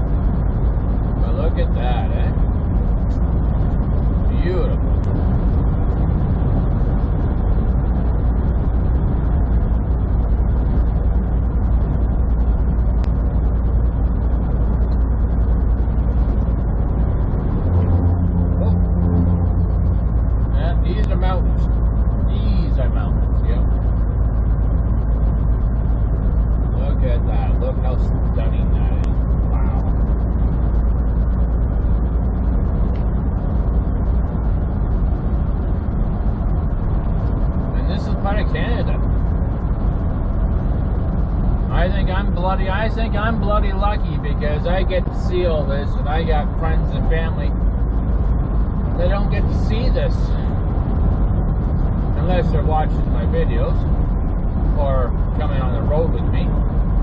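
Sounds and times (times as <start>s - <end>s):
diesel engine drone: 0.0s - 57.0s
road noise: 0.0s - 57.0s.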